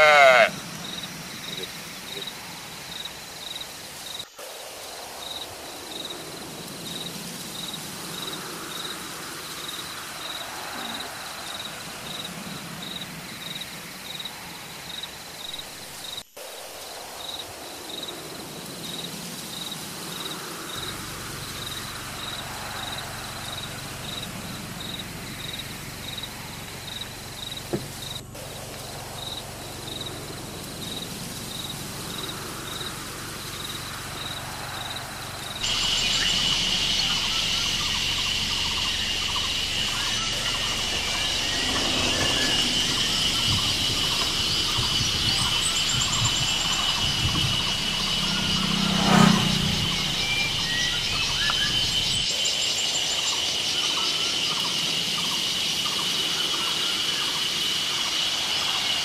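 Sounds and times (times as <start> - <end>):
insect chirping: 0.0 - 59.0
steady hissing background: 0.0 - 59.0.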